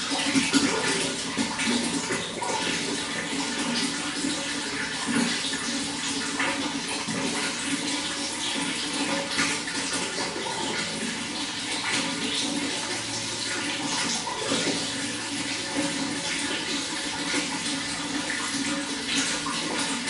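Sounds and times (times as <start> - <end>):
running water splashing: 0.0 - 20.0.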